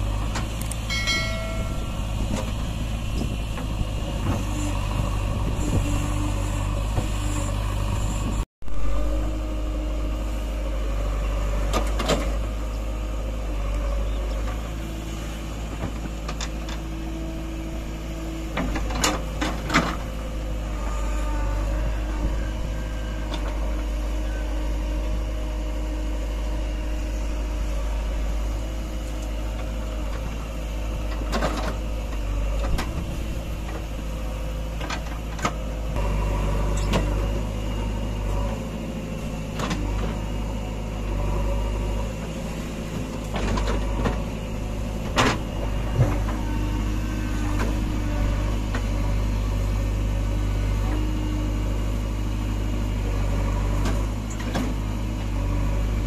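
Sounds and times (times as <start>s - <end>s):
backhoe diesel engine running: 0.0s - 56.0s.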